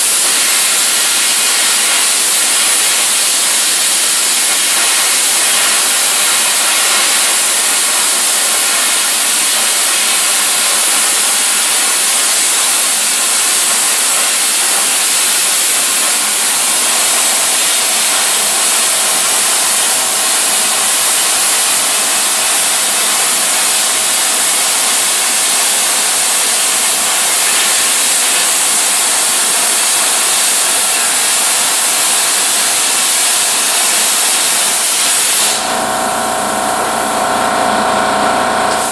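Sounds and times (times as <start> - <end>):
plasma cutter hissing: 0.0 - 37.4.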